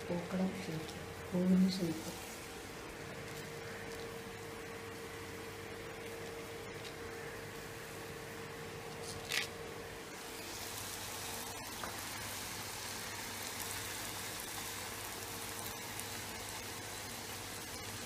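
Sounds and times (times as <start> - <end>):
dough deep-frying in oil: 0.0 - 18.0
faint steady hum: 0.0 - 18.0.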